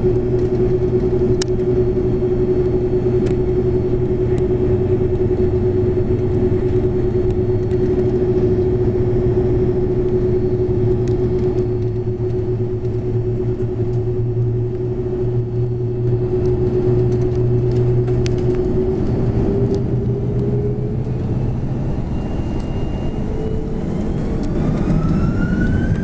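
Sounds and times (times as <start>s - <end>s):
jet engines idling rumble: 0.0s - 26.0s.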